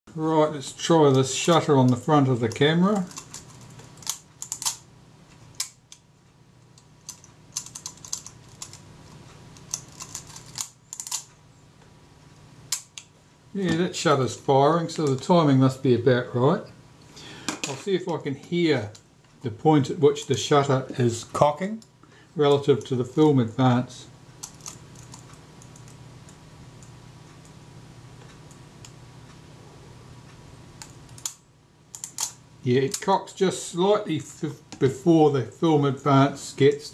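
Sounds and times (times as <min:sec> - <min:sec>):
faint low hum: 0:00.1 - 0:36.9.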